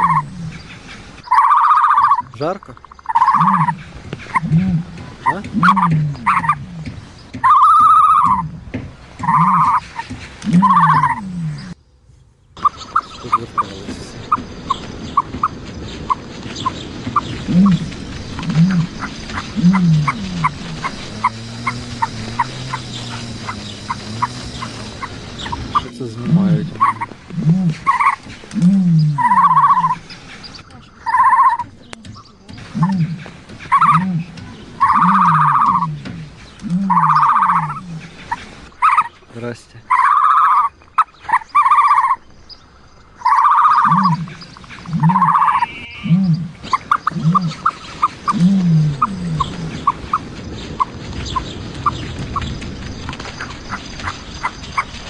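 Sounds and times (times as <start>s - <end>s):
animal squeaks: 0.0s - 6.8s, 7.4s - 8.6s, 9.2s - 11.8s, 14.3s - 39.2s, 39.9s - 42.2s, 43.2s - 50.3s
rising and falling animal calls: 0.0s - 11.8s, 12.6s - 42.3s, 43.1s - 55.0s
turkeys gobbling: 0.0s - 11.8s, 12.6s - 39.3s, 39.9s - 42.3s, 43.1s - 55.0s.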